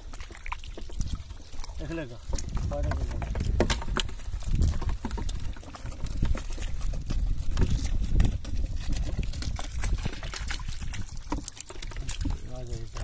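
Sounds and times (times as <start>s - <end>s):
small water splashes and drips: 0.0s - 13.0s.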